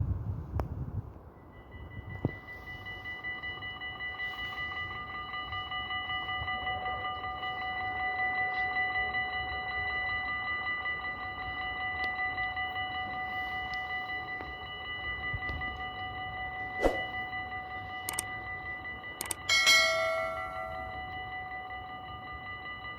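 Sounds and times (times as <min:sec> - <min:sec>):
level crossing bells ringing: 0:01.3 - 0:22.9.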